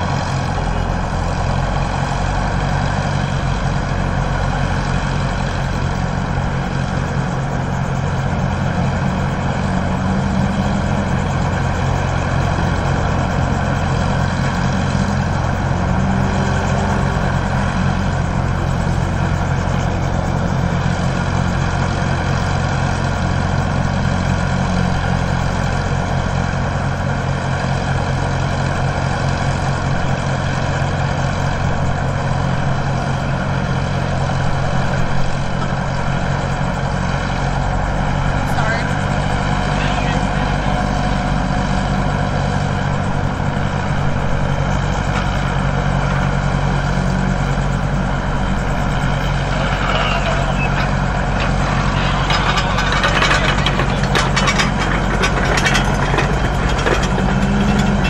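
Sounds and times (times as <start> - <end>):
heavy engine idling: 0.0 - 58.0.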